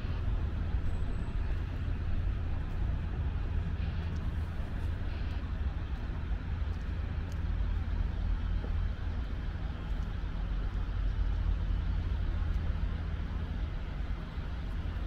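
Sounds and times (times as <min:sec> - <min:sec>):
city background rumble: 0:00.0 - 0:15.0.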